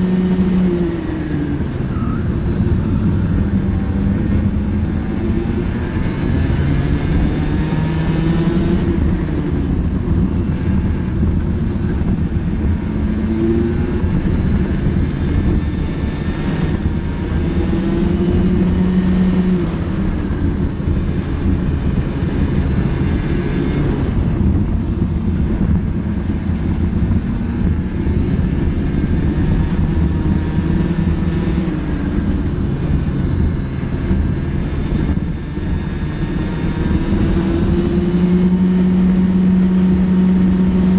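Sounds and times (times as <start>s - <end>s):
racing kart engine revving: 0.0s - 40.9s.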